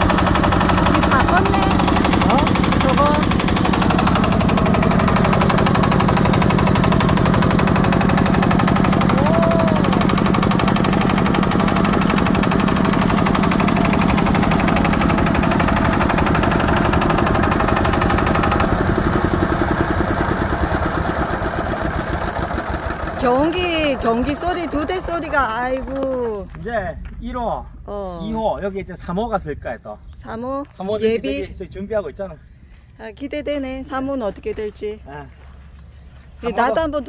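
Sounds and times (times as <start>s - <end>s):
diesel tractor engines chugging: 0.0s - 27.8s, 30.3s - 37.0s.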